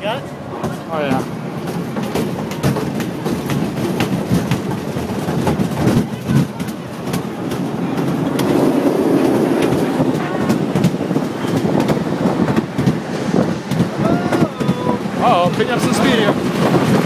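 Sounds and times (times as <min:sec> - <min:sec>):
roller coaster clattering on track: 0:00.0 - 0:17.0.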